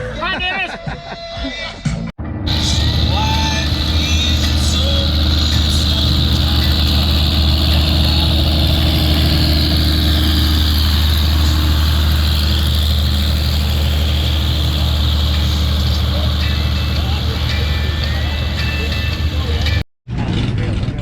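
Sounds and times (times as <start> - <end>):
truck engine idling: 2.3 - 19.9
steady high hiss: 2.5 - 19.8.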